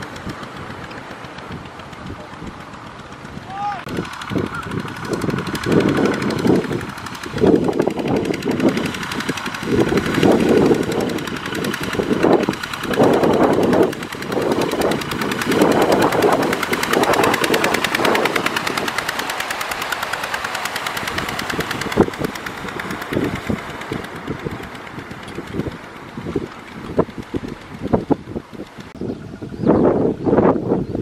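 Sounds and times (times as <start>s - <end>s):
wheels splashing through mud: 0.0s - 28.9s
diesel engine chugging: 0.0s - 30.2s.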